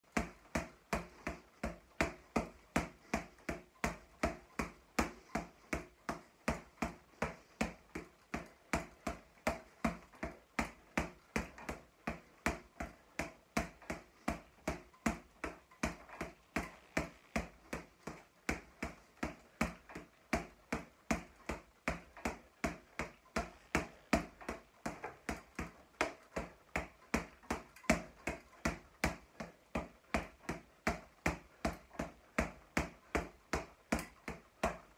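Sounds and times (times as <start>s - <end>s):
boxing gloves slapping punching ball: 0.1s - 34.9s.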